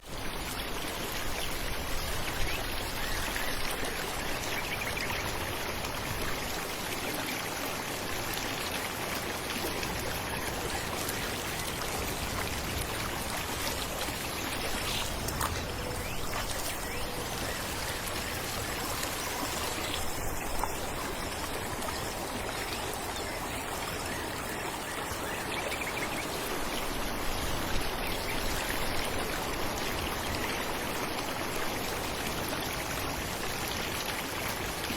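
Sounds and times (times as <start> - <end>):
falling water splashing and rushing: 0.0 - 34.9.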